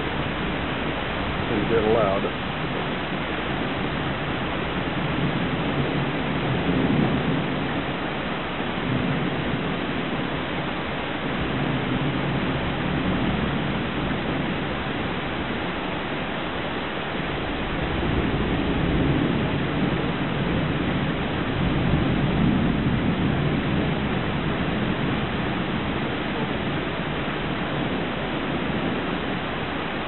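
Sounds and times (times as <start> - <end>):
rain pouring: 0.0 - 30.0
thunder rumbling: 0.0 - 30.0.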